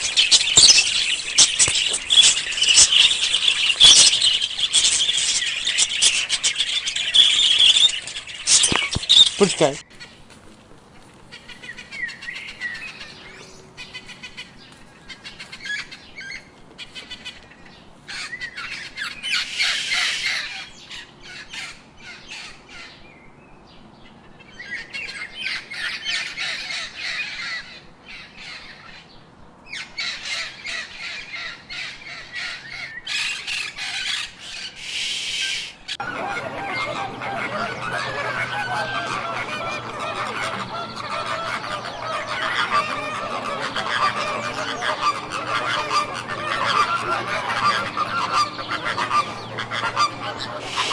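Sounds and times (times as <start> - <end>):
birds harsh chattering: 0.0 - 23.0, 29.7 - 50.9.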